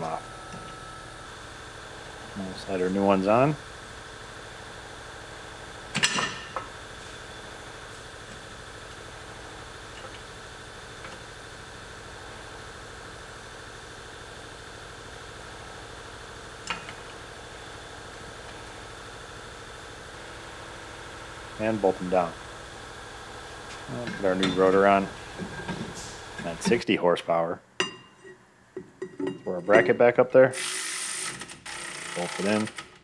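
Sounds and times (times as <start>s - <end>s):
steady hum: 0.0s - 30.6s.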